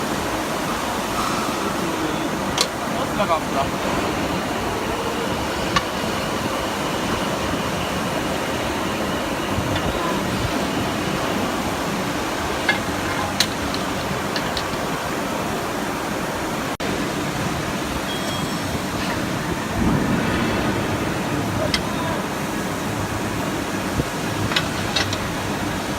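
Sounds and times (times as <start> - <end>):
steady rushing noise: 0.0 - 25.9.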